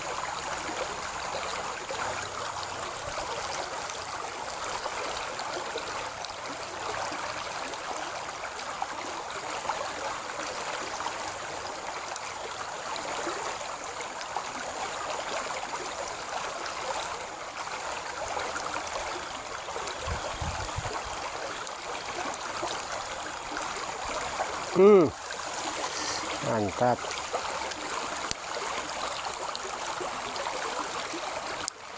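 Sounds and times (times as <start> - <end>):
stream water flowing: 0.0 - 31.9.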